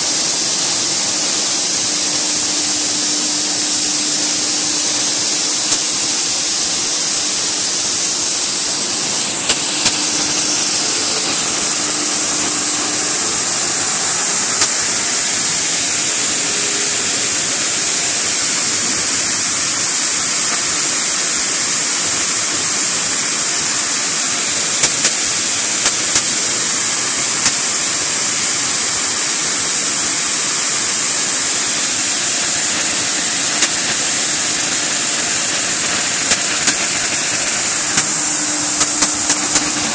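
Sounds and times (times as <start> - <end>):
machinery hissing: 0.0 - 39.9.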